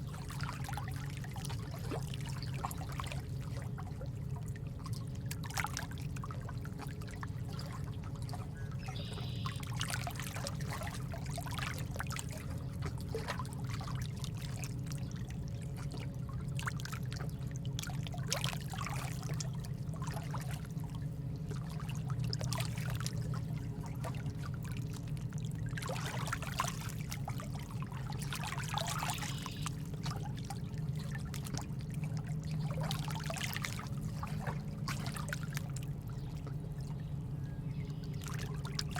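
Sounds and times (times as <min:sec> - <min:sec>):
steady low rumble: 0:00.0 - 0:38.9
trickling water: 0:00.0 - 0:38.9.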